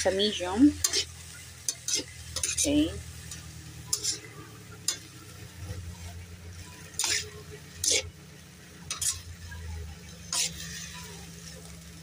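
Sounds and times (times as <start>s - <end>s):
food sizzling: 0.0s - 12.0s
metal spatula scraping wok: 0.0s - 12.0s.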